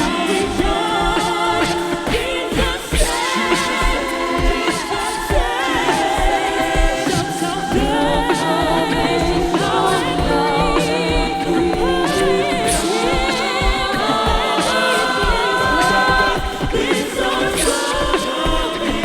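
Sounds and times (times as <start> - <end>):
steady low beat: 0.0 - 19.0
voices singing in harmony: 0.0 - 19.0.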